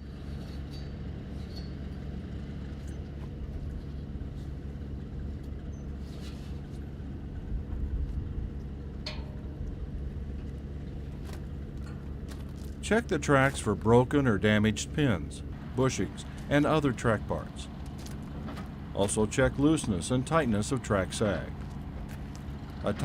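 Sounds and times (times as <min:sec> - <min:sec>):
heavy engine idling: 0:00.0 - 0:23.0.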